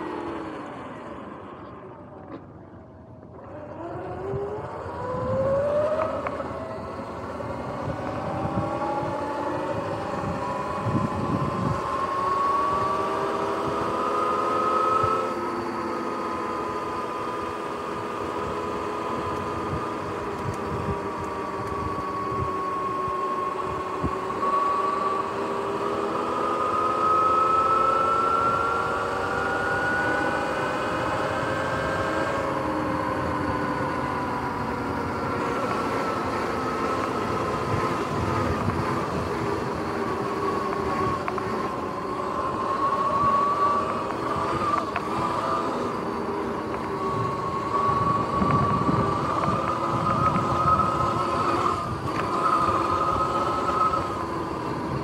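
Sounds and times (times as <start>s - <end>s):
wind: 0.0s - 55.0s
electric motor whining: 3.3s - 55.0s.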